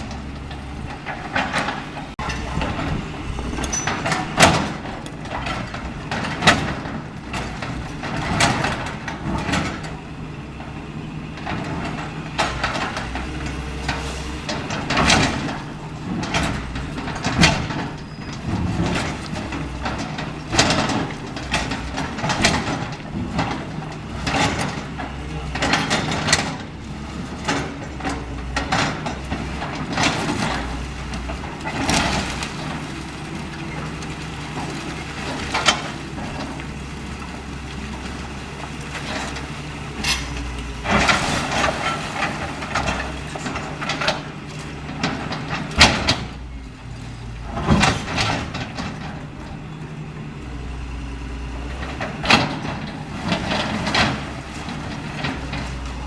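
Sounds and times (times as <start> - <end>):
demolition debris crashing: 0.0 - 56.0
excavator diesel engine under load: 0.0 - 56.0.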